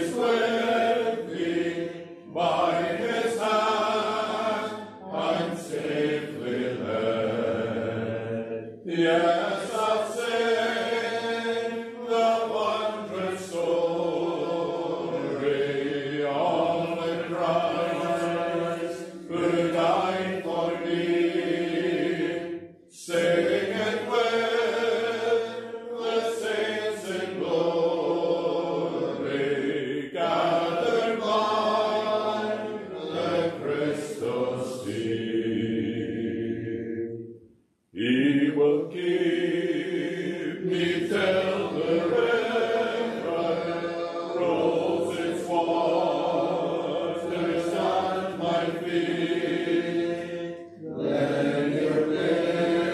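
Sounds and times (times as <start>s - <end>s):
congregation singing a hymn: 0.0s - 52.9s.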